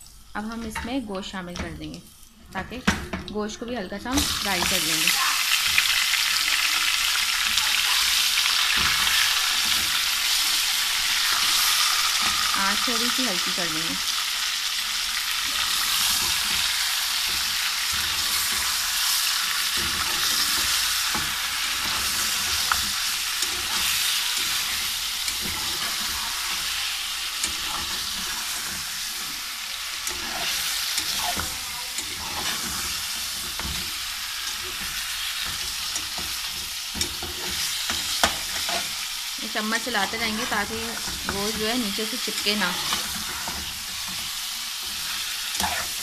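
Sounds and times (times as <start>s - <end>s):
meat sizzling in hot oil: 1.2s - 46.0s.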